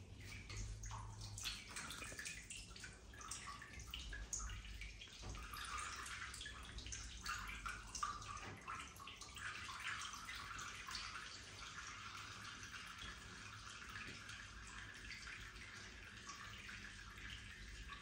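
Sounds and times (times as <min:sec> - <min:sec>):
water splashing into bathtub: 0:00.0 - 0:18.0.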